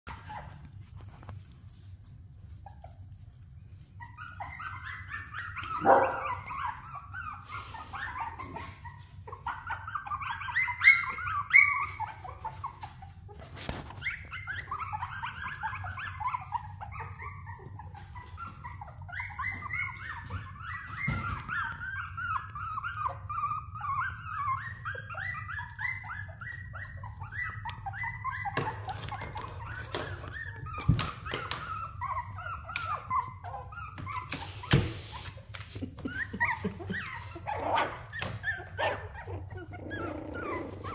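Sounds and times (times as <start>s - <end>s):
puppies whining and yelping: 0.0s - 40.9s.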